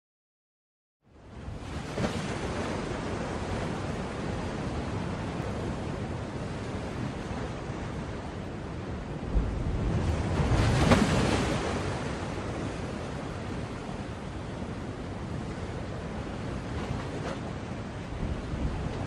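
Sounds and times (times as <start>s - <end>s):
wind: 1.0s - 19.0s
ocean surf: 1.2s - 19.0s.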